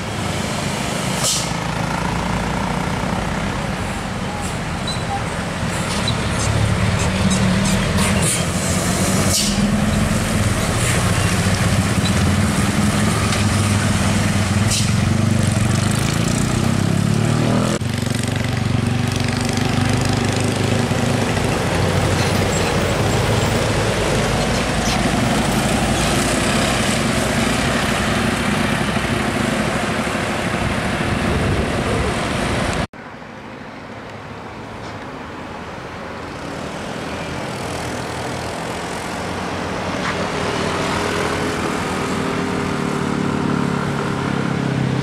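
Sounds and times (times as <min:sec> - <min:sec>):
diesel truck engines passing: 0:00.0 - 0:45.0.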